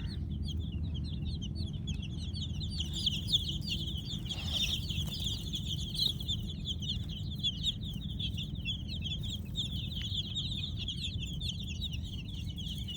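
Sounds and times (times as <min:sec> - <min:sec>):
baby chicks peeping: 0:00.0 - 0:12.9
steady low hum: 0:00.0 - 0:12.9.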